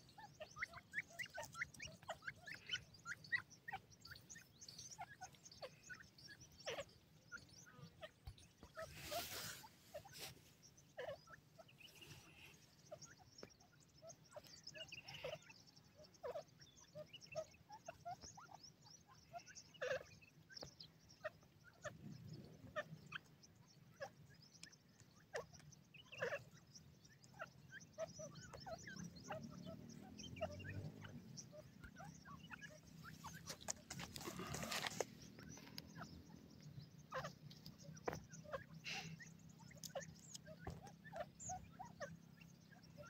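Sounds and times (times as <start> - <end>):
bird chirps and clucks: 0.0 - 43.0.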